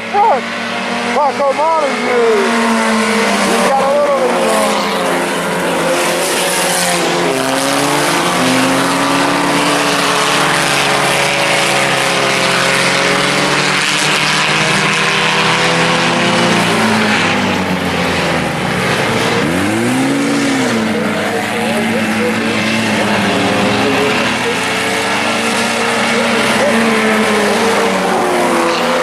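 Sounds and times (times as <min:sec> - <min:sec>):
race car engines droning: 0:00.0 - 0:29.0
race car passing by: 0:00.0 - 0:29.0.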